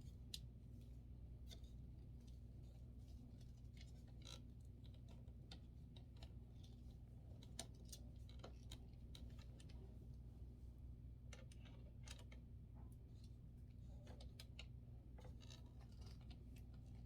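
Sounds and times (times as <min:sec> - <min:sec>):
small clicks and scrapes: 0:00.0 - 0:10.2, 0:11.1 - 0:17.0.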